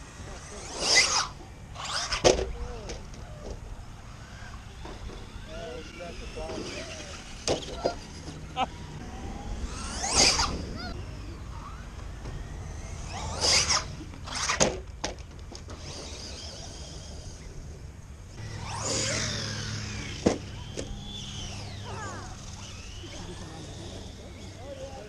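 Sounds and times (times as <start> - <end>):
toy truck motor whining: 0.2 - 14.7, 15.7 - 17.8, 18.4 - 25.0.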